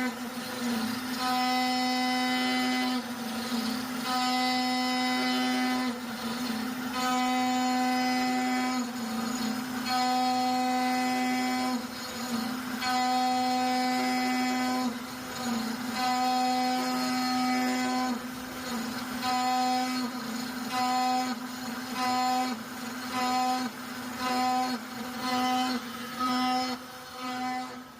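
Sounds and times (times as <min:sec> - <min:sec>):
router motors whining: 0:00.0 - 0:27.9.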